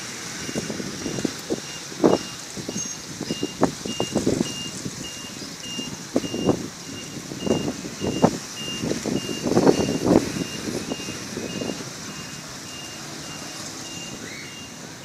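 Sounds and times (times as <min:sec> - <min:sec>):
high electronic beeping: 0:00.4 - 0:14.8.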